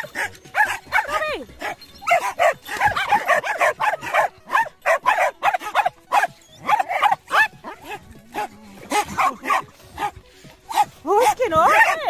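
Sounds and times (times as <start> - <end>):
dog yapping: 0.0 - 12.0.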